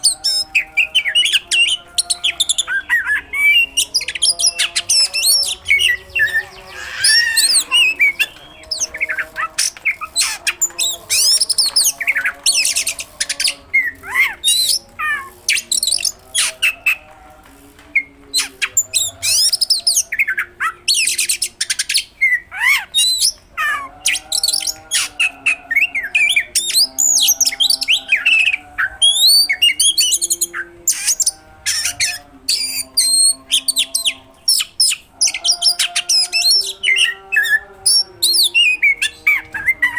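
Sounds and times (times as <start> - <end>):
songbird singing whistles and chatters: 0.0 - 17.0, 17.9 - 39.9.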